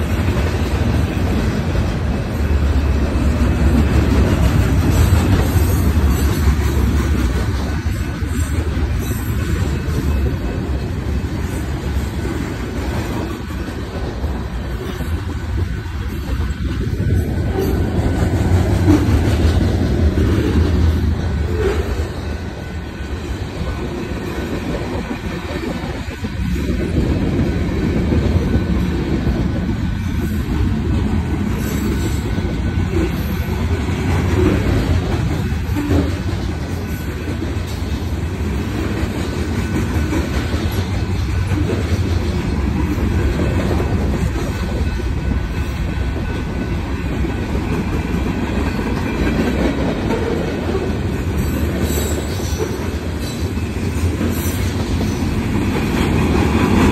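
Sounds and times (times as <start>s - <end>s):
train wheels clattering on rails: 0.0s - 56.9s.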